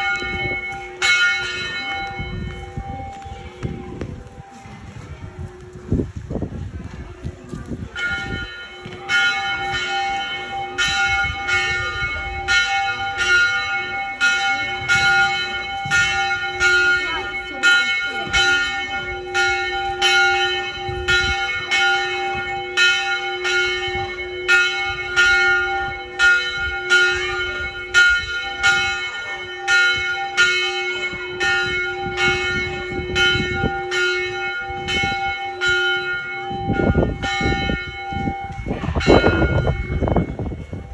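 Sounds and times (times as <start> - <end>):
church bell tolling: 0.0 - 6.1, 7.8 - 40.9.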